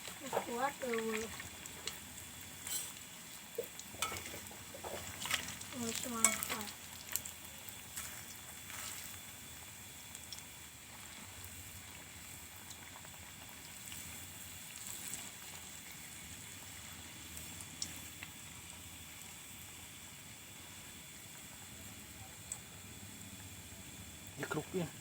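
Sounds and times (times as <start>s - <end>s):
fritters sizzling in hot oil: 0.0s - 25.0s.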